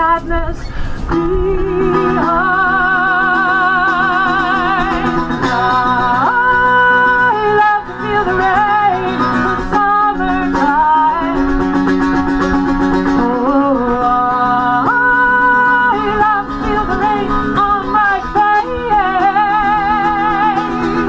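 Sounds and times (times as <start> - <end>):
woman singing: 0.0 - 11.8, 13.0 - 21.0
plucked mandolin strumming: 1.1 - 21.0.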